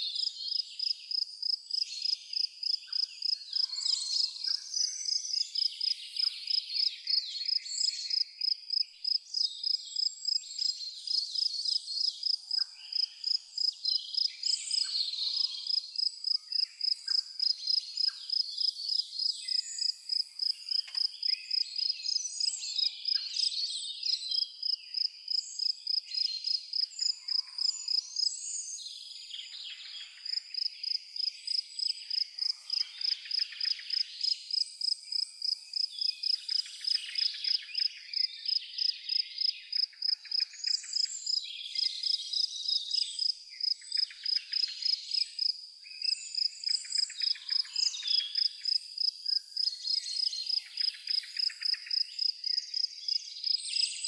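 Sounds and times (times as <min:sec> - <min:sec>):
birds singing: 0:00.0 - 0:54.0
cricket chirping: 0:00.2 - 0:28.6, 0:29.4 - 0:54.0.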